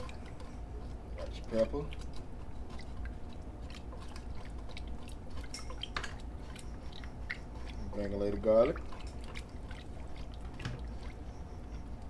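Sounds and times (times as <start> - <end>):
small clicks and drips: 0.0 - 11.9
low steady hum: 0.0 - 12.0.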